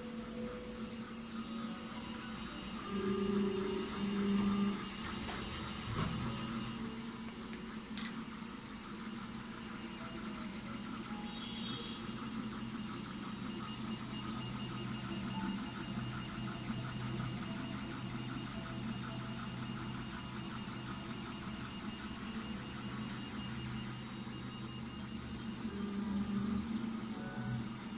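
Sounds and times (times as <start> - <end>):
print head pulsing: 0.0 - 27.9
printer fans and motors whirring: 0.0 - 27.9.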